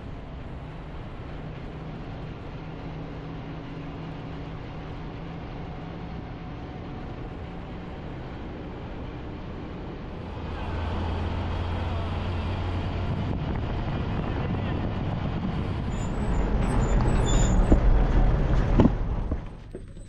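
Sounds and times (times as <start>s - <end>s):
motor vehicle engine running: 0.0s - 20.0s
road noise: 0.0s - 20.0s.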